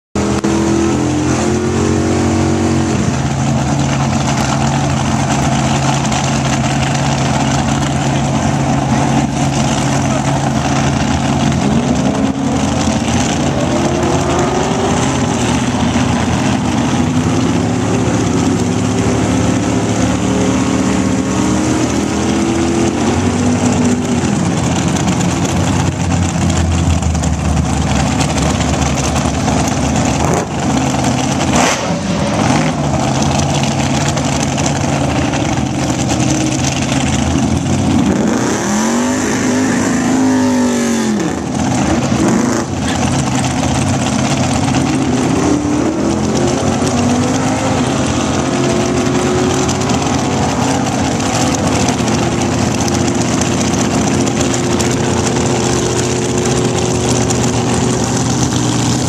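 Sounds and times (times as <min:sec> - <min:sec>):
racing car engine idling: 0:02.8 - 0:59.0.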